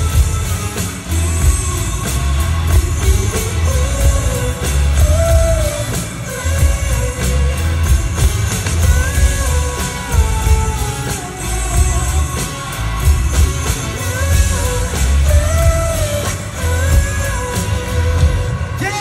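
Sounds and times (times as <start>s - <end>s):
man singing: 0.0s - 19.0s
rock band playing: 0.0s - 19.0s.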